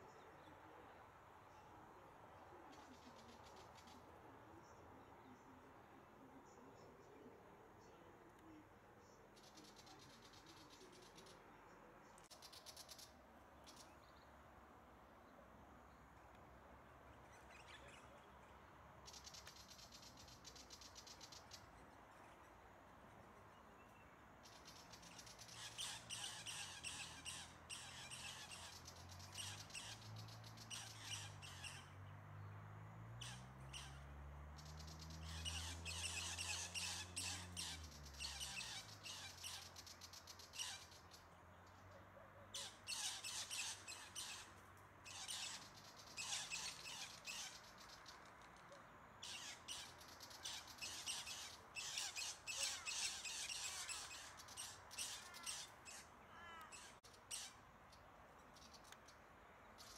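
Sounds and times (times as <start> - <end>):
birds chirping and chattering: 0.0 - 14.4, 15.9 - 32.6, 33.2 - 59.9.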